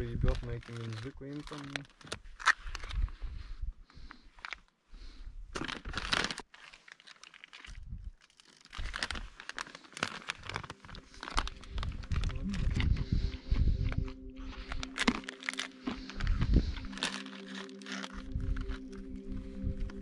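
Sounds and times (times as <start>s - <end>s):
foil pouch crinkling: 0.2s - 3.2s, 4.1s - 4.7s, 5.6s - 20.0s.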